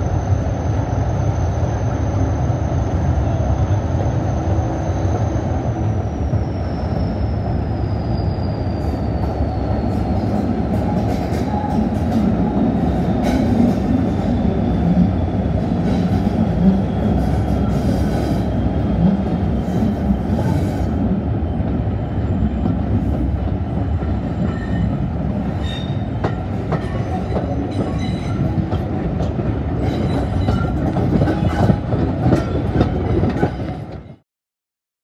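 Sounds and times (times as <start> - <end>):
train low rumble: 0.0 - 34.2.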